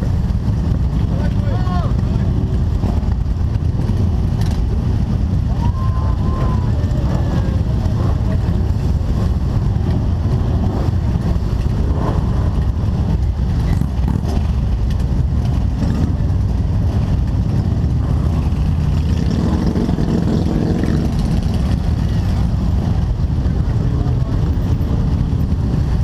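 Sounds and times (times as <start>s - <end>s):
motorcycle engines low rumble: 0.0s - 26.0s.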